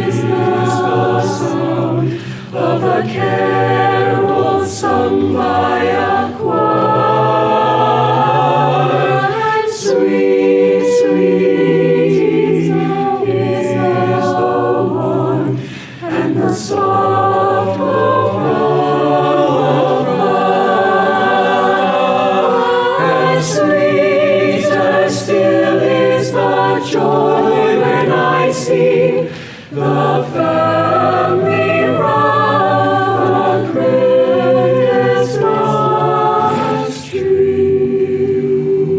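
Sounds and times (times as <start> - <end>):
choir singing held chords: 0.0 - 38.9.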